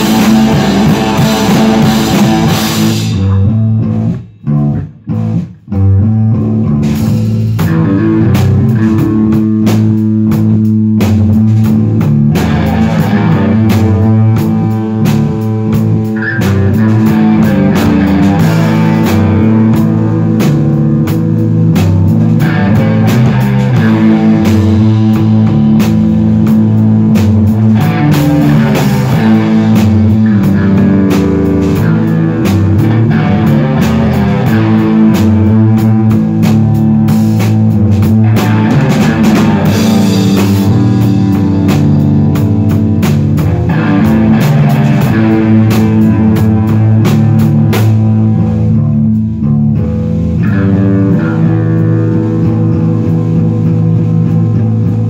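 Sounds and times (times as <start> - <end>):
drum kit beat: 0.0 - 55.0
rock guitar: 0.0 - 55.0.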